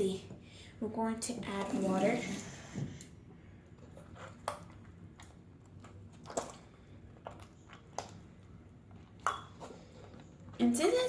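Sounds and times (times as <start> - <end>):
slime squishing by hand: 1.5 - 11.0.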